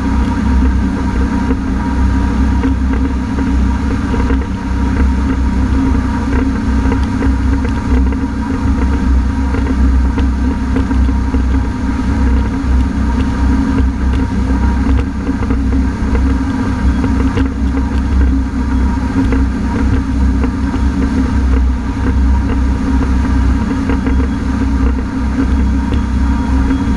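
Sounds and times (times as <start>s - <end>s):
watercraft engine running: 0.0s - 26.9s.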